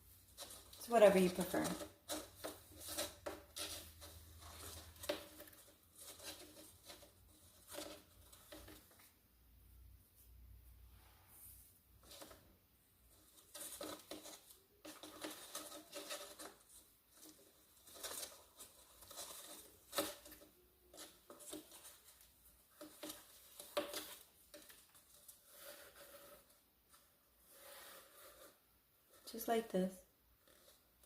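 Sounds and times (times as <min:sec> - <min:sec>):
paper cup rustling and tapping: 0:00.3 - 0:09.1, 0:13.1 - 0:29.3.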